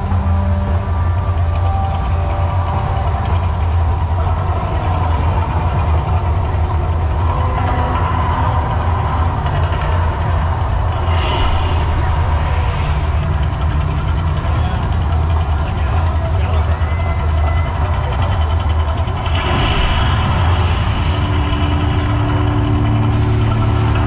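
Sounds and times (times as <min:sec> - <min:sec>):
deep steady rumble: 0:00.0 - 0:24.0.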